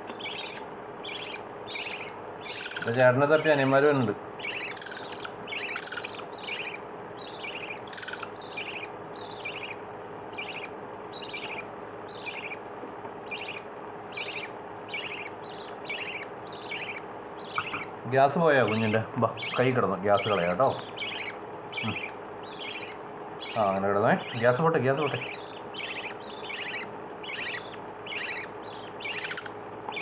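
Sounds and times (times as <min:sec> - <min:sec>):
chicks cheeping: 0:00.0 - 0:30.0.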